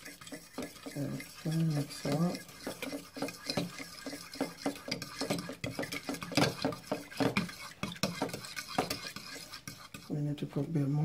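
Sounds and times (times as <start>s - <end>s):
fork scraping ceramic bowl: 0.0s - 10.2s.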